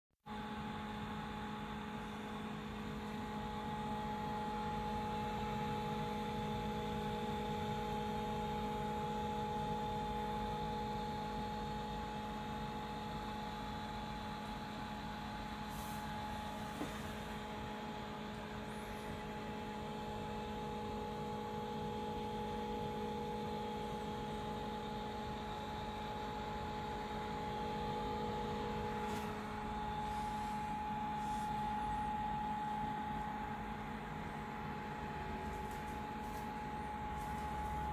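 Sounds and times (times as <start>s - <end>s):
electrical hum: 0.3s - 37.9s.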